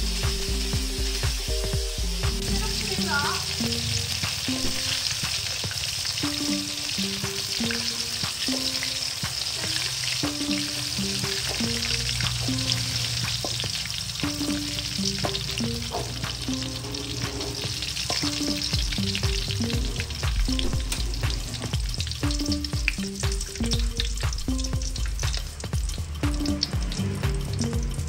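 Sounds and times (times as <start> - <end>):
food sizzling in hot oil: 0.0 - 28.0
soft background melody: 0.0 - 28.0.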